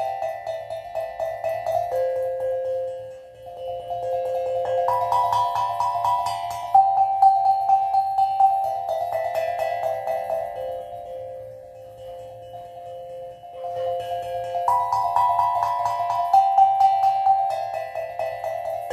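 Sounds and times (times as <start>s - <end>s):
steel tongue drum notes: 0.0s - 18.9s.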